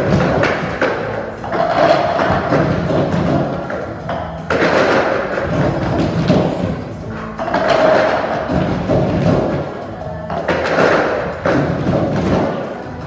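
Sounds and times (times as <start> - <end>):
plastic cups thumping on wooden floor: 0.0 - 6.8, 7.4 - 9.6, 10.3 - 12.6
music with beat: 0.0 - 13.0.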